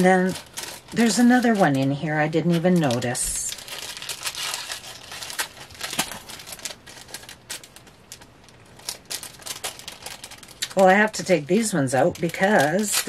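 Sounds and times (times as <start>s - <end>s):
jewellery packaging crinkling: 0.0s - 13.0s.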